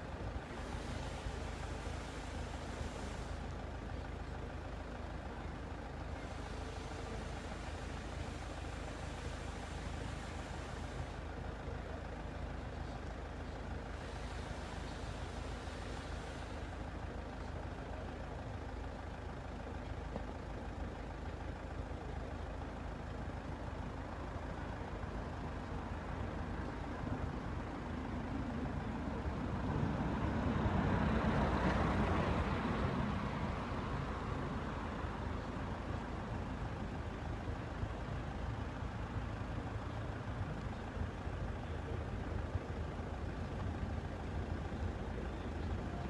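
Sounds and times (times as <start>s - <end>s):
traffic rumble: 0.0s - 46.0s.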